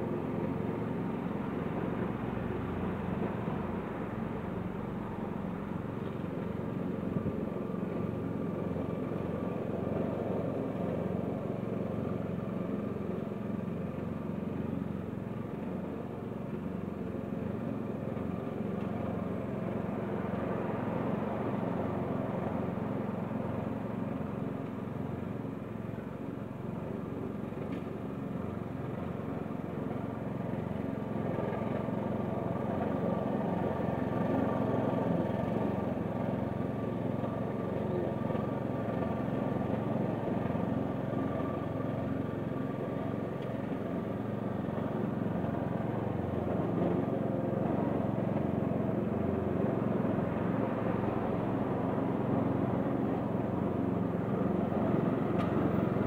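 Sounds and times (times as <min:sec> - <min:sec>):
lawn mower engine cutting grass: 0:05.9 - 0:56.0.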